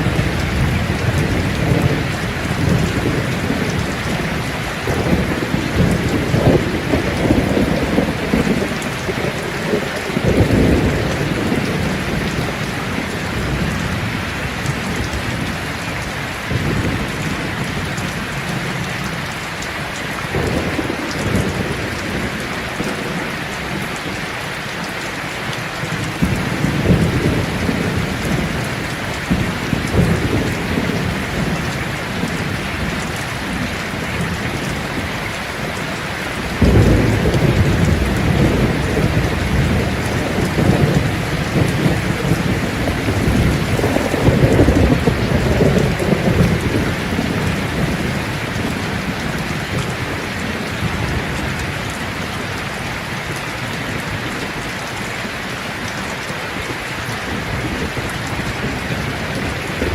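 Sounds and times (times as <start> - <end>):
thunder rumbling: 0.0 - 55.1, 55.8 - 59.9
steady rain: 0.0 - 59.9.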